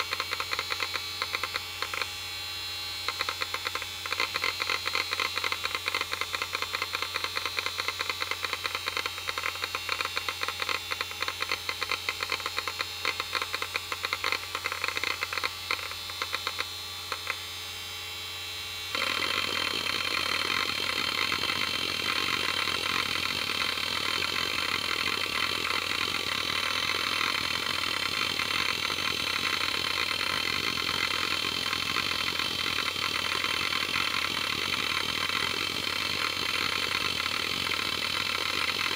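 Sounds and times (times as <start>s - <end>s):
hard drive seek clicking: 0.0s - 2.1s, 3.0s - 17.5s, 18.9s - 38.9s
hard drive spindle hum: 0.0s - 17.6s, 18.9s - 38.9s.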